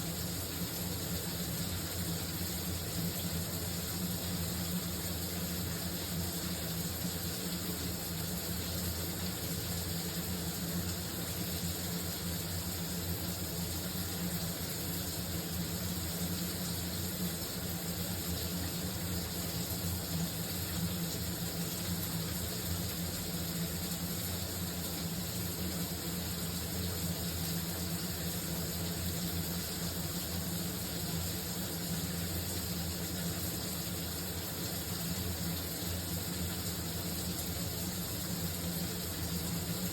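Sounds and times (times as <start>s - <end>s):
shower water running: 0.0s - 39.9s.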